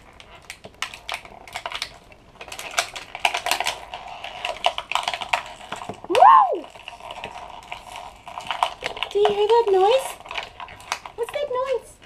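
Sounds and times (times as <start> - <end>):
plastic toys clicking and tapping: 0.0 - 6.1, 6.9 - 12.0.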